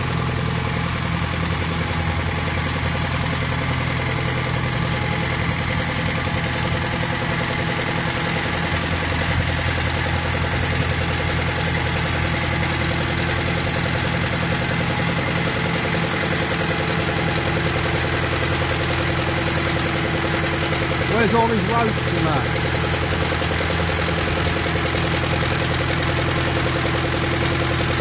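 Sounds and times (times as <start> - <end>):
travel lift engine running: 0.0 - 28.0.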